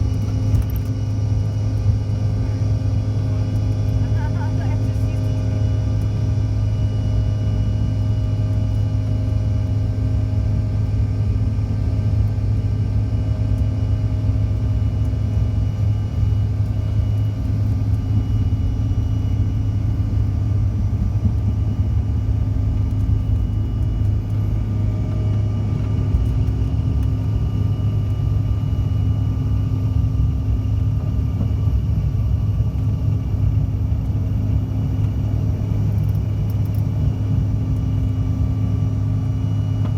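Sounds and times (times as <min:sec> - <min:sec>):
faint whining tones: 0:00.0 - 0:39.9
jet engine cabin hum: 0:00.0 - 0:39.9.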